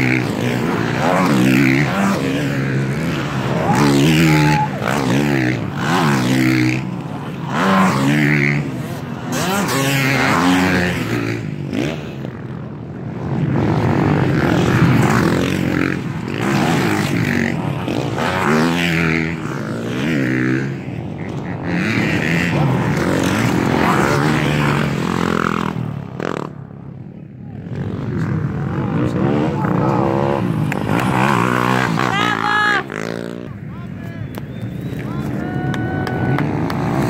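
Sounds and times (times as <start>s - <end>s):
motocross bike engines revving: 0.0s - 37.0s.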